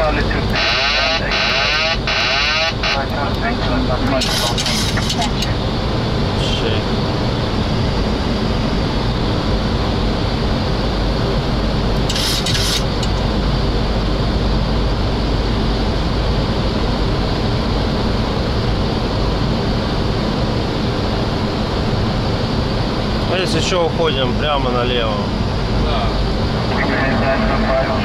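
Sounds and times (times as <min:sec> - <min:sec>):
airflow and engine noise: 0:00.0 - 0:28.0.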